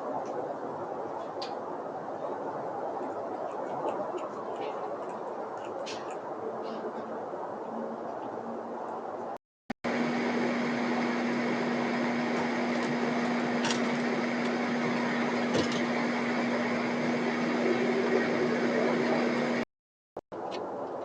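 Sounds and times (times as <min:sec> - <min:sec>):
steady mechanical hum: 0:00.0 - 0:19.6.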